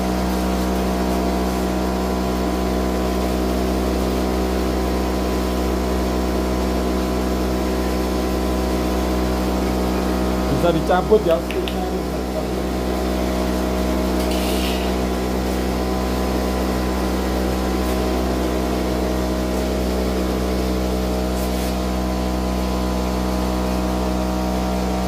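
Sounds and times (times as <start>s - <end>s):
cotton candy machine motor humming: 0.0s - 25.0s.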